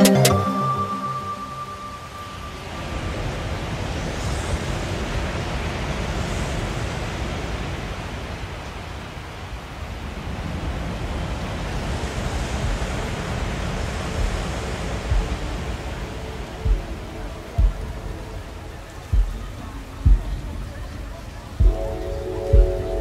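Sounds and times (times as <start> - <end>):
ambient electronic noise wash: 0.0 - 9.2, 9.8 - 23.0.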